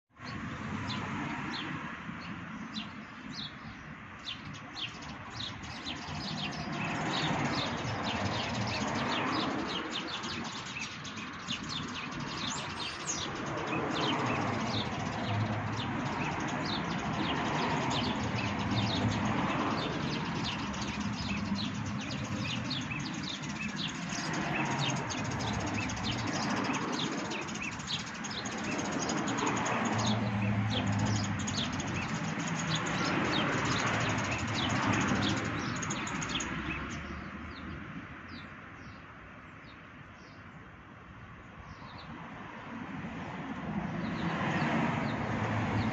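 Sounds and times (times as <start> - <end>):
small birds chirping: 0.2 - 42.2.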